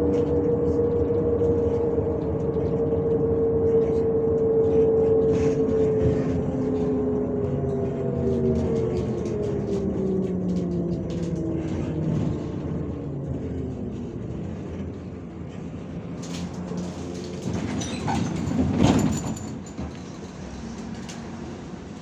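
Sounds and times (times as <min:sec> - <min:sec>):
bus engine whine: 0:00.0 - 0:22.0
bus rumble: 0:00.0 - 0:22.0.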